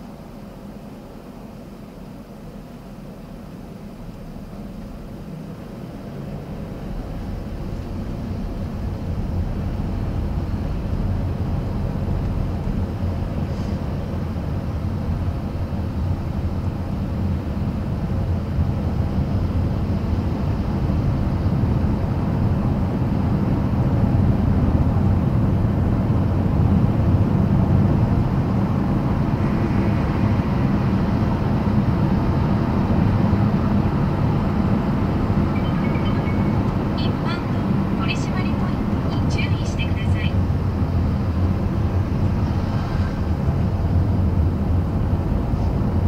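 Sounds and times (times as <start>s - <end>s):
tyre and road roar in car cabin: 0.0s - 46.0s.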